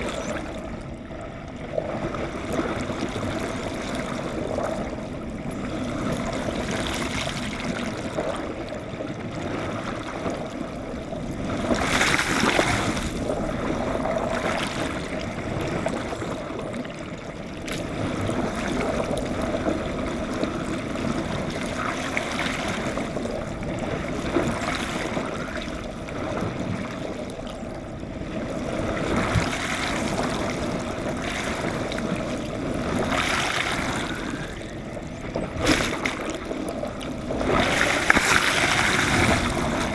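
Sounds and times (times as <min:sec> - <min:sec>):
muffled underwater water rushing: 0:00.0 - 0:39.9.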